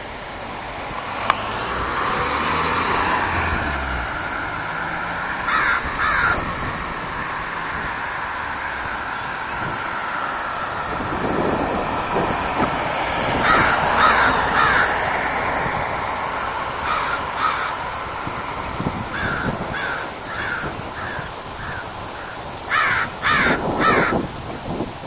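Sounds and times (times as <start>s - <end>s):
birds calling: 1.3s - 15.4s, 16.1s - 24.3s.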